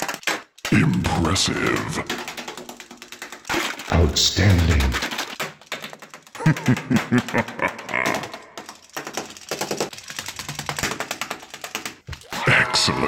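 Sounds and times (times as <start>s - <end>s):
rapid small clicks and knocks: 0.0s - 13.0s.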